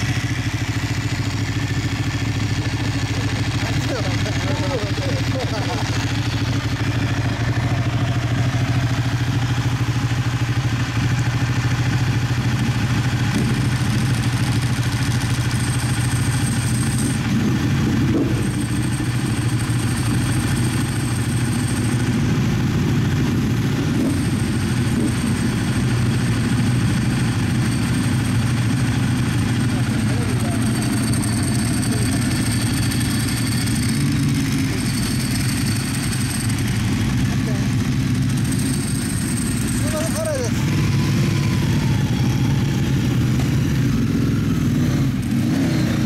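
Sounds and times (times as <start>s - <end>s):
motorcycles idling: 0.0s - 46.0s.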